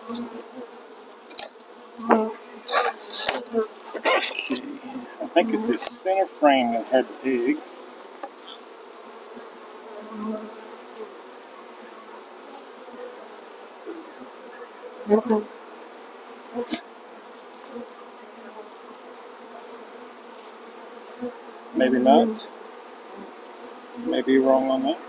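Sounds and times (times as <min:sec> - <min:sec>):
honeybees humming: 0:00.0 - 0:25.0.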